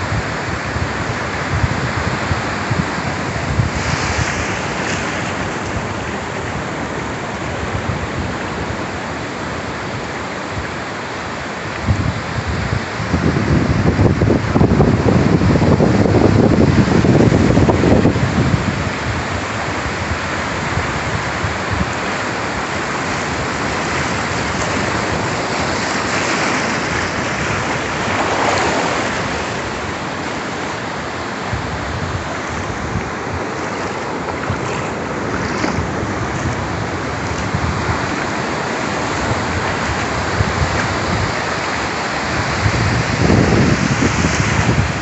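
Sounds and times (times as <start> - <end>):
waves breaking on sandy beach: 0.0 - 45.0.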